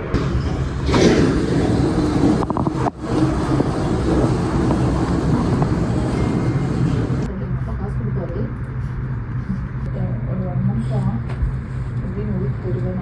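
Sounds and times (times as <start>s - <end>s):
vehicle traffic noise: 0.0s - 13.0s.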